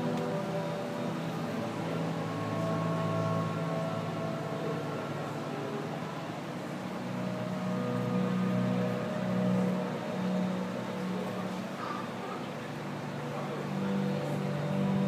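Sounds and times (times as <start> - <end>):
slow held notes: 0.0 - 15.0
steady hum: 0.0 - 15.0.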